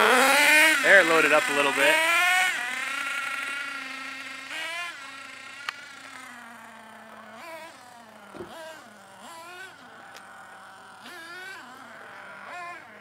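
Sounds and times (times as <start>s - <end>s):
small two-stroke engine buzzing: 0.0s - 13.0s.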